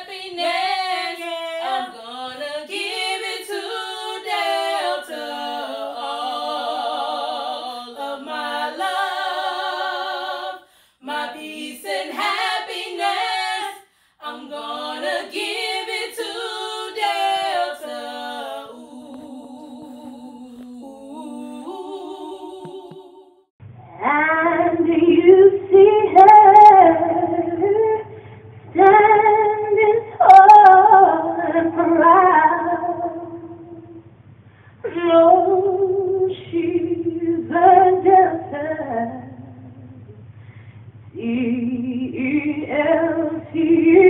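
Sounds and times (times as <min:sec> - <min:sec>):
voices singing a cappella: 0:00.0 - 0:34.1, 0:34.8 - 0:40.4, 0:41.1 - 0:44.0.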